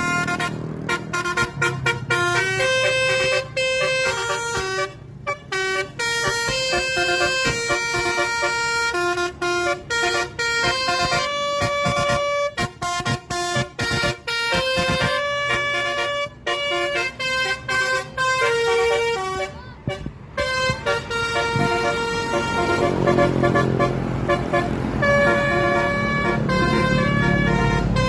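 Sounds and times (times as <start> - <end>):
musical bus air horn: 0.0 - 28.0.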